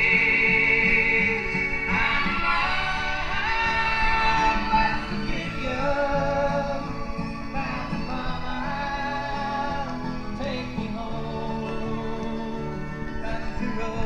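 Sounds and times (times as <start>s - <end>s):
song played on a record player: 0.0s - 14.0s.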